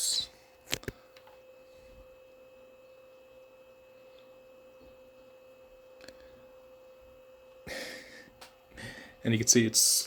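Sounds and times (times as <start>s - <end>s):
electrical hum: 0.0s - 10.0s
high whine: 0.0s - 10.0s.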